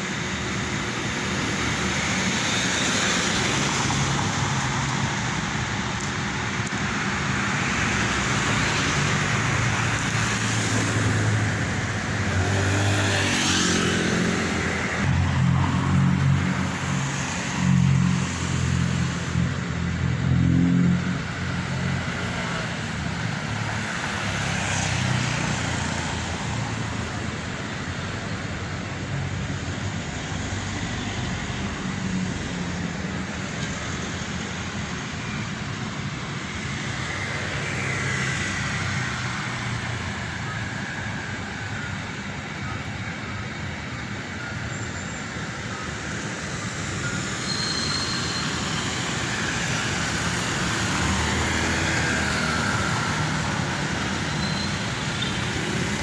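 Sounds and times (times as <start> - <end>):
cars passing on city road: 0.0 - 56.0.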